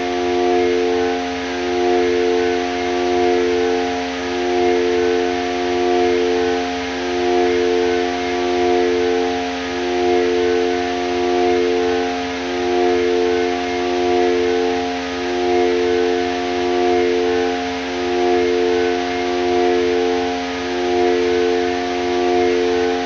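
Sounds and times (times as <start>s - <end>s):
synthesizer drone: 0.0s - 23.0s.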